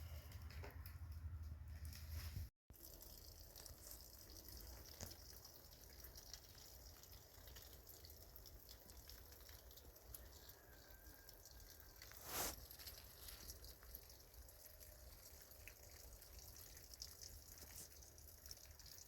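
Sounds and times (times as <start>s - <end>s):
water dripping and trickling: 2.1s - 19.0s.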